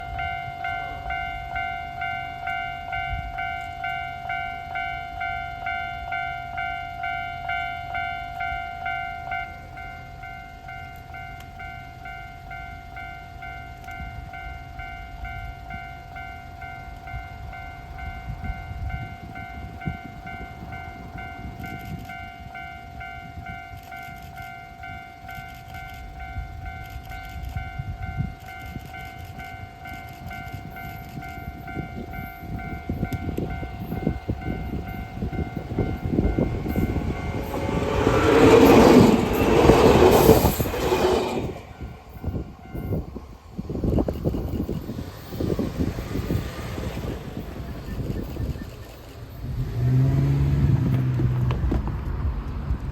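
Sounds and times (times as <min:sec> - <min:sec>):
level crossing alarm ringing: 0:00.0 - 0:43.4
electric train passing: 0:00.0 - 0:52.9.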